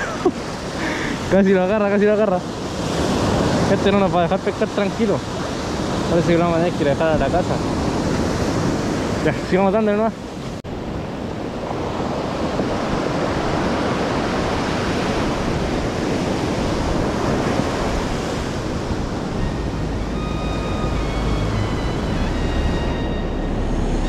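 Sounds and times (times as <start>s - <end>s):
ocean surf washing onto beach: 0.0s - 24.0s
wind rumbling on microphone: 0.0s - 24.0s.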